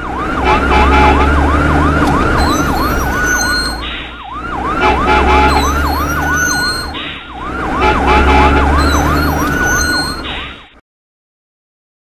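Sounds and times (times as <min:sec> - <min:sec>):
siren yelp: 0:00.0 - 0:10.8.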